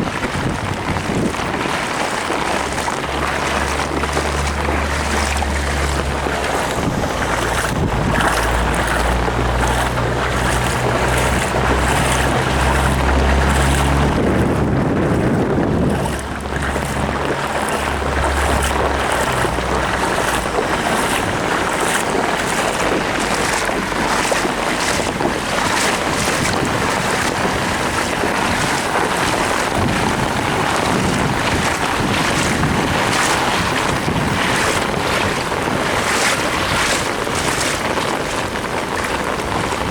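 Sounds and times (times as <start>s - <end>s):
low engine hum: 0.0s - 39.9s
rain pounding on car: 0.0s - 39.9s
water spraying from tyres: 0.0s - 39.9s.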